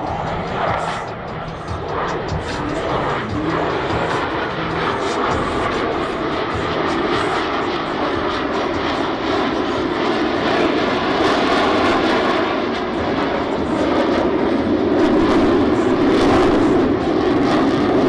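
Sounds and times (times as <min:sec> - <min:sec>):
jet engine rushing: 0:00.0 - 0:18.0.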